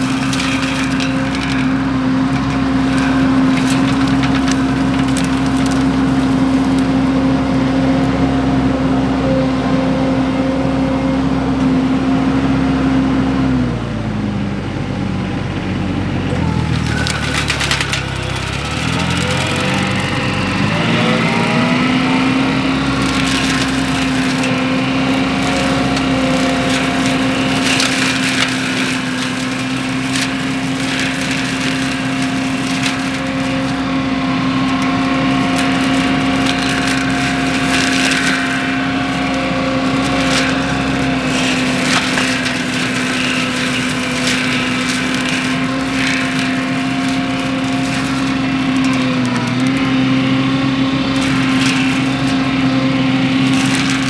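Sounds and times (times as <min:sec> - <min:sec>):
wood cracking and snapping: 0:00.0 - 0:08.9, 0:16.3 - 0:54.0
mulcher machine whining: 0:00.0 - 0:54.0.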